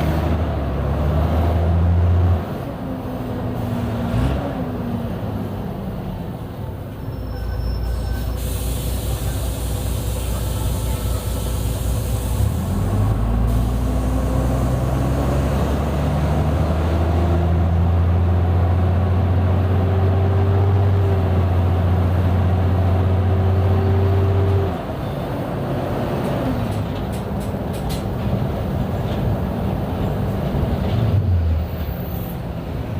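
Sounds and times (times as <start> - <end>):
bus engine: 0.0 - 32.9.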